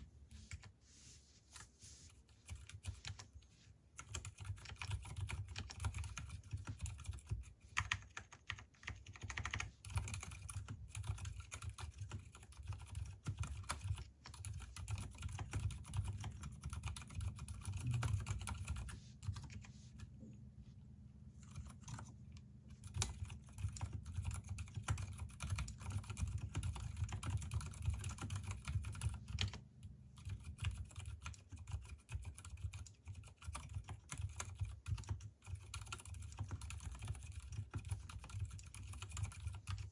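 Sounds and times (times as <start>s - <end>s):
typing on mechanical keyboard: 2.4s - 3.2s, 4.0s - 19.7s, 21.4s - 22.1s, 22.7s - 29.6s, 30.2s - 39.9s.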